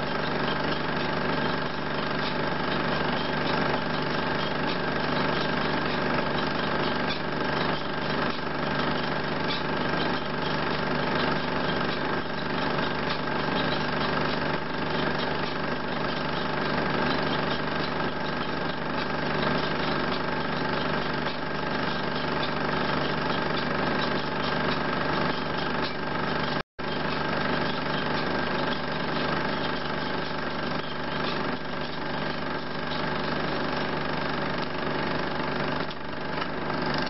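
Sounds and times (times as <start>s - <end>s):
film projector whirring: 0.0s - 37.0s
film-advance mechanism clatter: 0.0s - 37.0s.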